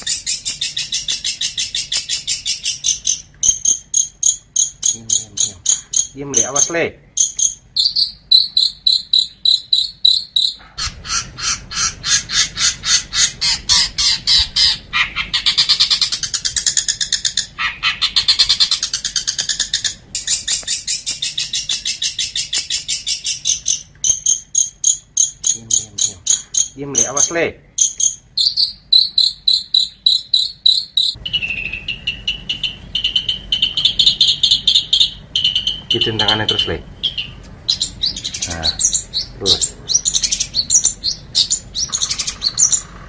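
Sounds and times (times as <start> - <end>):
shrike chattering song: 0.0 - 43.0.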